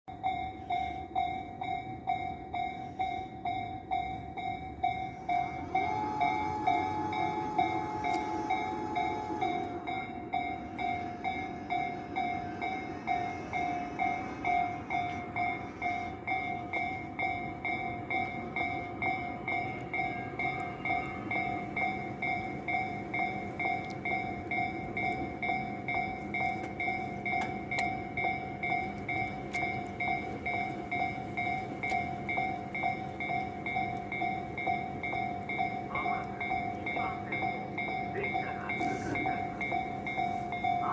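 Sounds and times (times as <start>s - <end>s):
electric train running: 0.1s - 40.9s
level crossing bell ringing: 0.1s - 40.9s.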